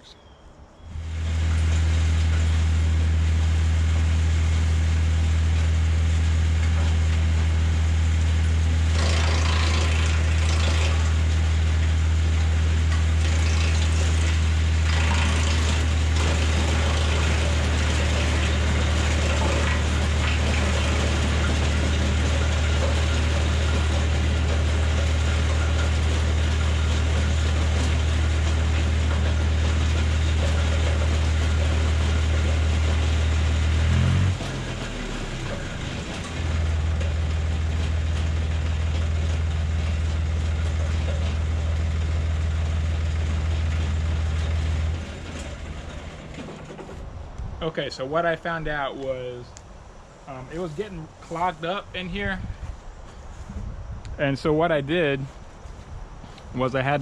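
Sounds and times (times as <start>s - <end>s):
wood chipper chipping branches: 0.9s - 53.3s
tractor engine idling: 0.9s - 53.5s.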